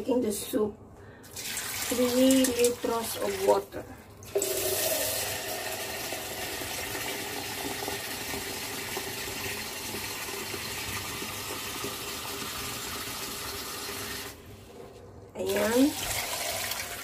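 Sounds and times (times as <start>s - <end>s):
water pouring into a pot: 1.2s - 14.4s, 15.5s - 17.0s.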